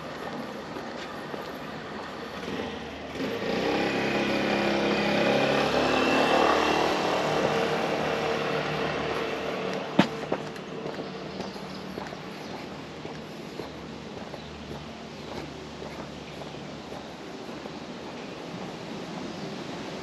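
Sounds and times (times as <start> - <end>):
vehicle passing by: 1.4 - 17.5.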